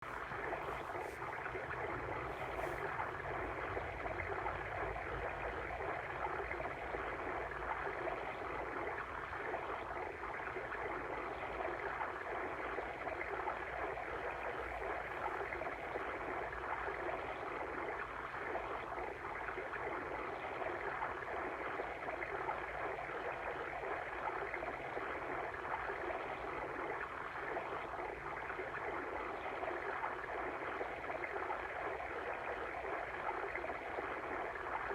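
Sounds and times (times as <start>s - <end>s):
water stream flowing: 0.0s - 34.9s.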